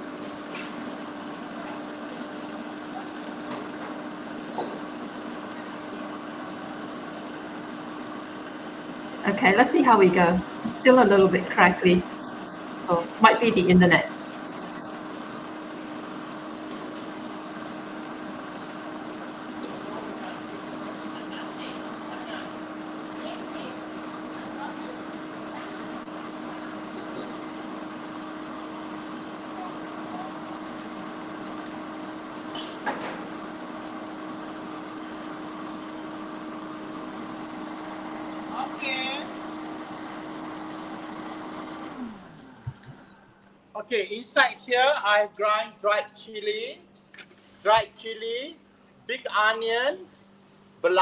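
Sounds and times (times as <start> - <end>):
exhaust hood fan humming: 0.0 - 51.0.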